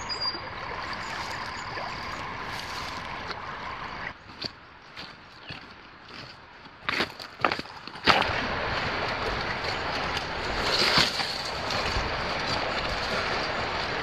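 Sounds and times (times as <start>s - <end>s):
creek water rushing over rocks: 0.0s - 5.3s, 7.4s - 14.0s.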